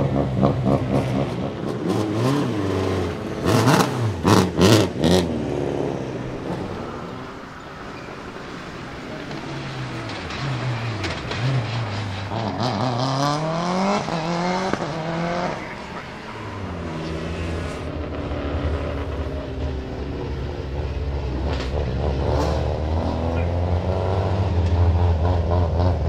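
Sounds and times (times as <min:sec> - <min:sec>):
rally car engine revving: 0:00.0 - 0:07.3, 0:09.2 - 0:26.0.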